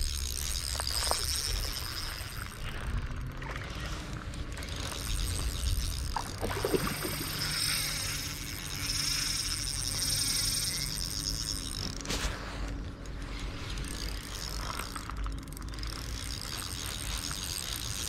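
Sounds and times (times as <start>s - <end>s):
fishing reel gears whirring: 0.0s - 18.0s.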